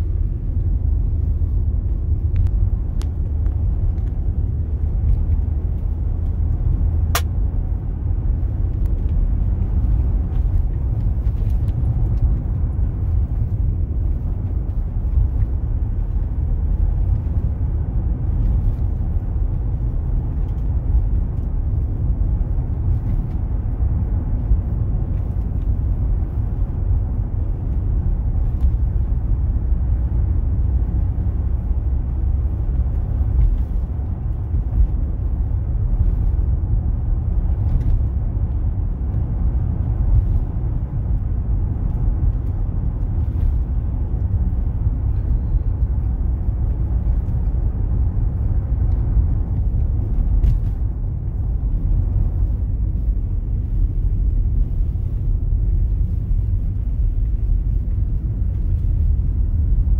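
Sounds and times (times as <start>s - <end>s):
car driving on snow: 0.0s - 59.9s.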